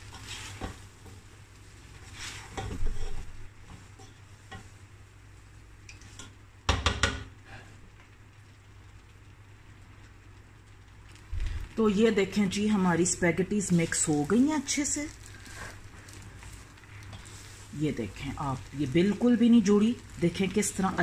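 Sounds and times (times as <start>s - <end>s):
light sizzle: 0.0s - 21.0s.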